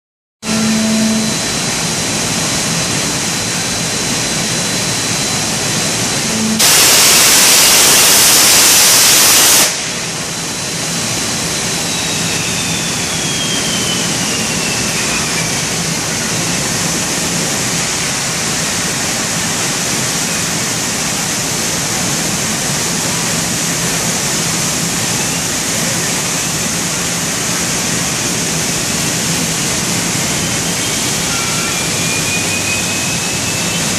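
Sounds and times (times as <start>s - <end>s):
faint high whine falling in pitch: 0.4s - 33.9s
loud hiss: 0.4s - 33.9s
loud machine noise: 0.4s - 33.9s.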